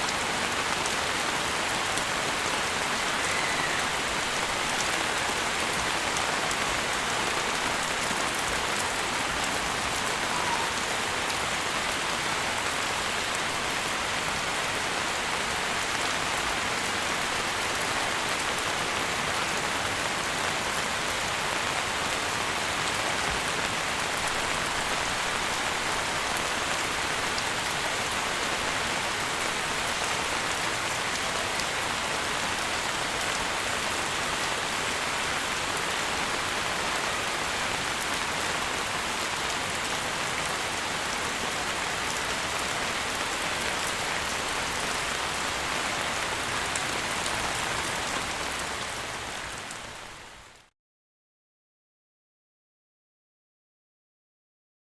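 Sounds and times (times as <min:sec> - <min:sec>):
steady rain falling: 0:00.0 - 0:50.7.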